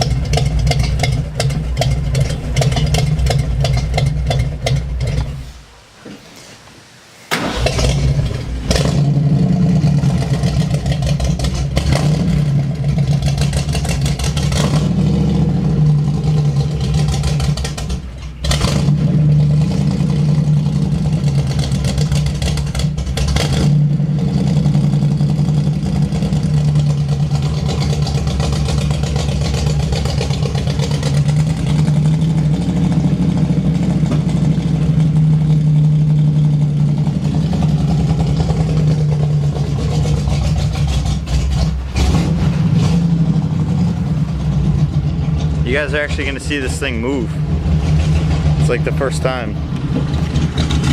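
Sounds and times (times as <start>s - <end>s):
van engine running: 0.0s - 6.0s, 7.3s - 50.9s.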